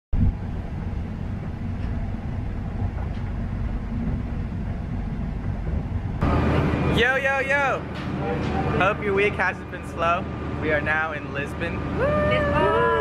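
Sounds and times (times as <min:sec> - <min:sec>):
train rumbling: 0:00.2 - 0:13.0.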